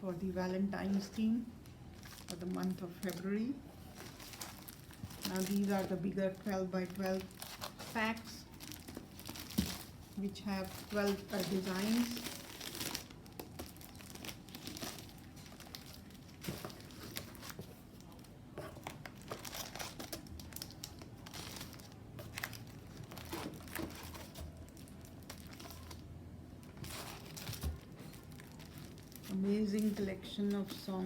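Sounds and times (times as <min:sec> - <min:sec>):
plastic packaging crinkling: 0:01.0 - 0:31.0.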